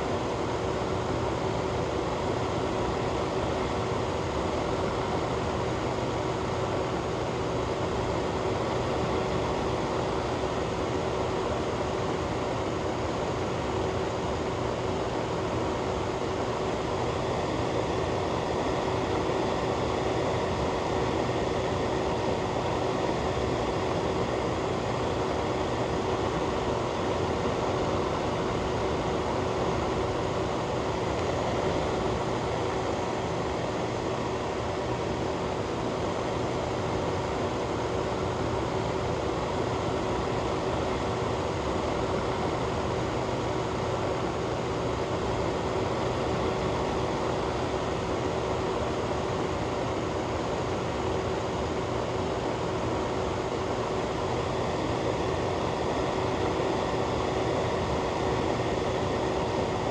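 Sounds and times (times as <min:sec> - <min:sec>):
fan running: 0:00.0 - 0:59.9.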